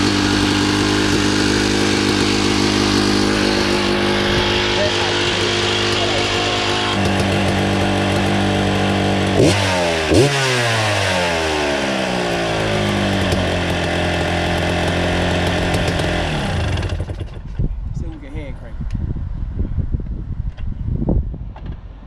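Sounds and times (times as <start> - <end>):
dirt bike engine: 0.0 - 18.4.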